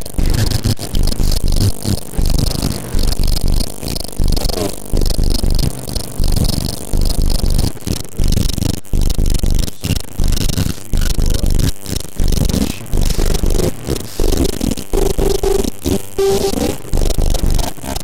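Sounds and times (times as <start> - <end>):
buzzing tone: 0.0 - 18.0
harsh rattling noise pulses: 0.0 - 18.0.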